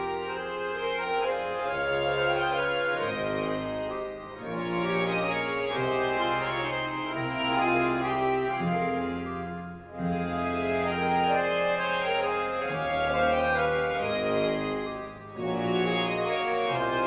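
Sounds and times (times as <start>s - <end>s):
accordion orchestra playing: 0.0s - 17.0s.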